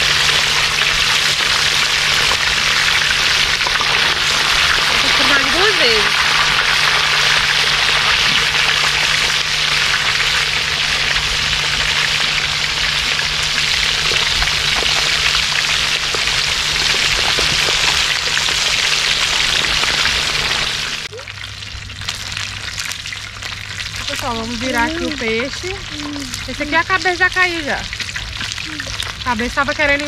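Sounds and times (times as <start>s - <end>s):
fish sizzling in hot oil: 0.0s - 30.0s
oil popping: 0.0s - 30.0s.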